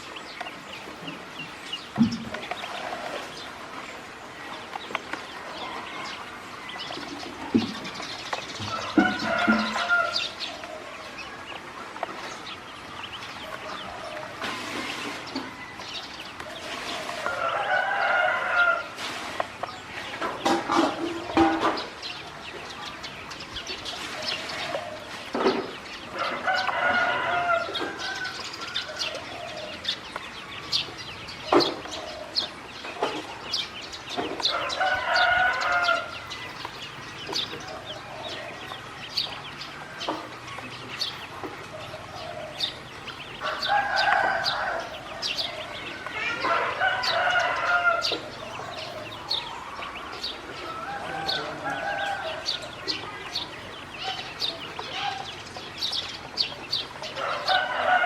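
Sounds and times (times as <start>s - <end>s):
ducklings peeping: 0.0s - 58.0s
roosters crowing: 0.0s - 58.0s.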